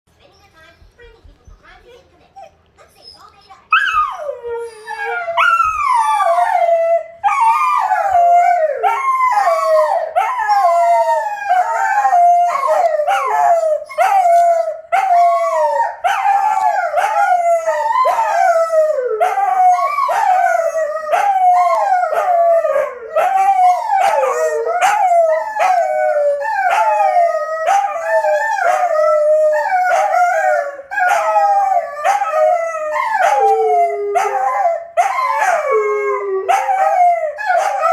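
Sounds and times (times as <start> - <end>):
dogs howling: 3.7 - 37.9.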